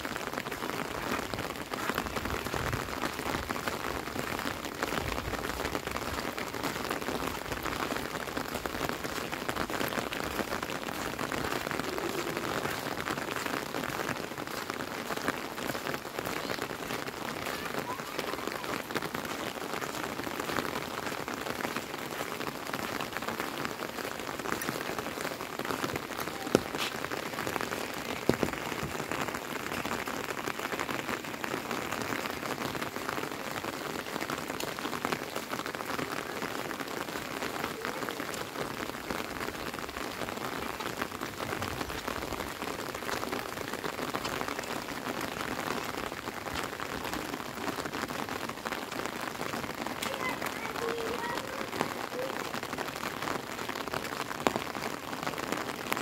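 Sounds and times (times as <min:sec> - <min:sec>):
rain hissing on umbrella and road: 0:00.0 - 0:56.0.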